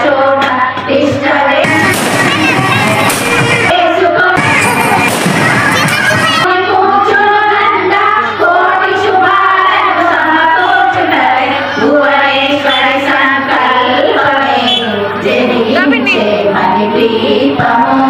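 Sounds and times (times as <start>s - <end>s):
group of women singing: 0.0s - 5.6s, 6.4s - 18.0s.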